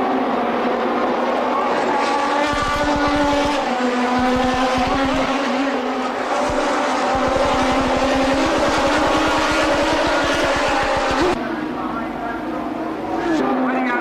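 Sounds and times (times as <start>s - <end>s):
race car engine running: 0.0s - 13.2s.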